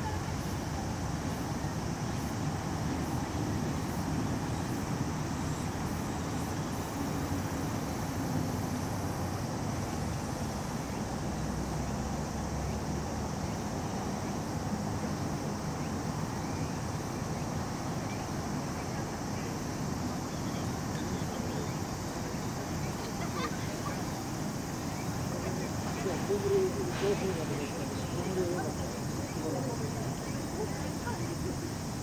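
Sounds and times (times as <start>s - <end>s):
faint hiss: 0.0s - 32.0s.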